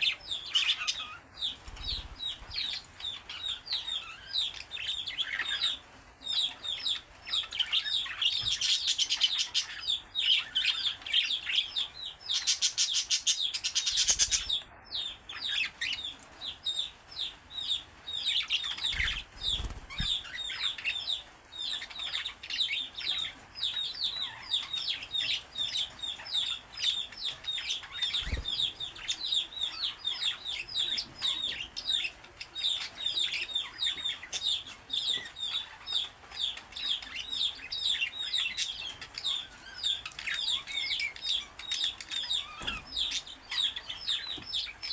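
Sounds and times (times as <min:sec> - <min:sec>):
budgerigars warbling and chattering: 0:00.0 - 0:44.9.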